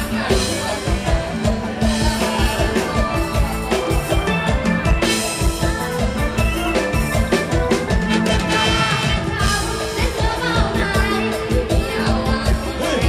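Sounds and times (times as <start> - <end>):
live band music: 0.0 - 13.0
steady drum beat: 0.0 - 13.0.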